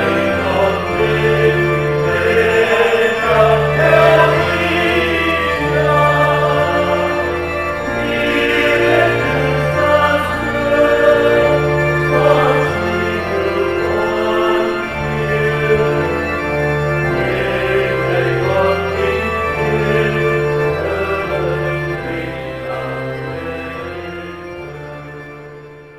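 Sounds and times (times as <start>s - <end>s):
organ playing hymn chords: 0.0s - 25.9s.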